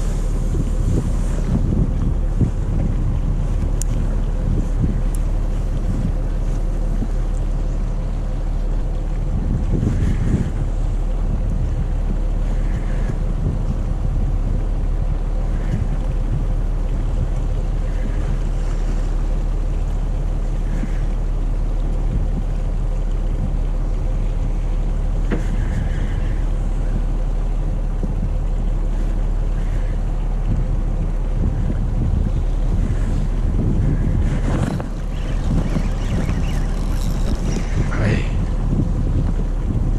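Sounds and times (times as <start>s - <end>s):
boat engine low hum: 0.0s - 39.9s
wind on microphone: 0.0s - 39.9s.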